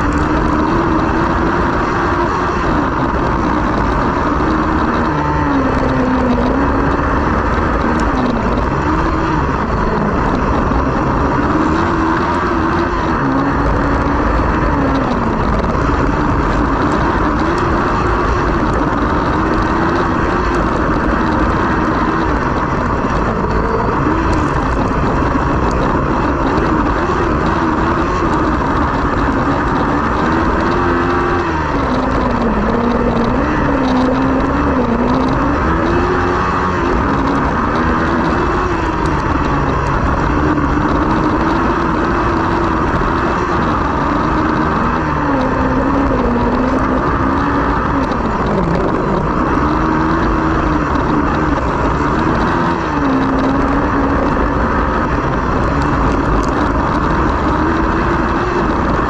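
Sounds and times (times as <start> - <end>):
buggy engine running hard: 0.0 - 59.0
tyres on dirt: 0.0 - 59.0.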